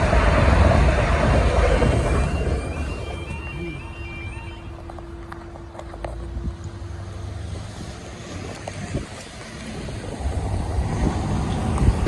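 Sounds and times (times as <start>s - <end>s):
tyres hissing on wet road: 0.0s - 4.6s, 6.2s - 12.0s
wind from open window: 0.0s - 12.0s.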